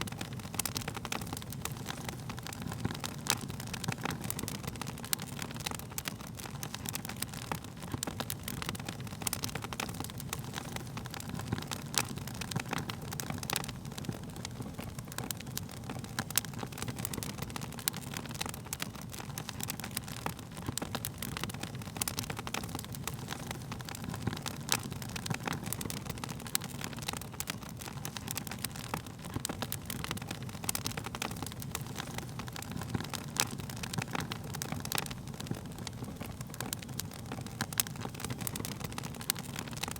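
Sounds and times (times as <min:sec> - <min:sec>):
burning wood crackling and popping: 0:00.0 - 0:39.9
fire flames rumbling: 0:00.0 - 0:39.9.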